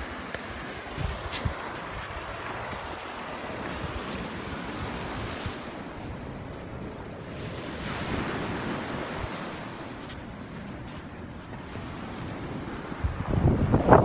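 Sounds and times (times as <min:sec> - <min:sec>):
ocean surf washing up: 0:00.0 - 0:14.0
wind buffeting microphone: 0:00.0 - 0:14.0.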